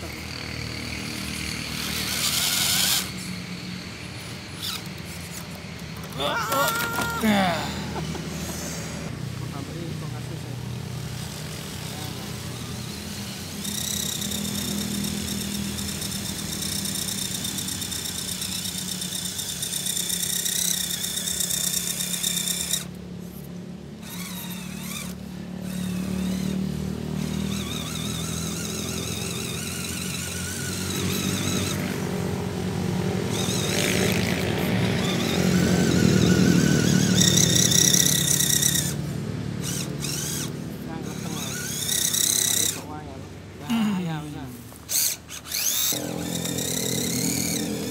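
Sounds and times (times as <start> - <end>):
electric motors whining: 0.0 - 47.9.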